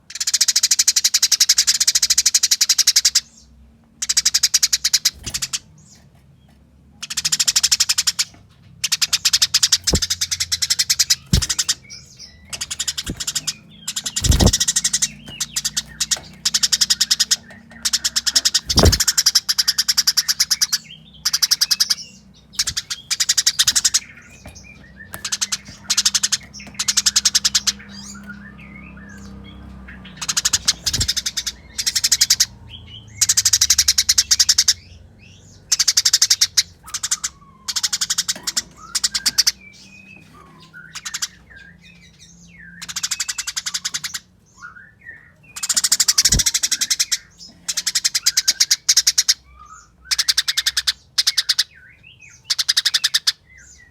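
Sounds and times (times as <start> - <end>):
sparrow rapid chirping chatter: 0.0 - 53.9.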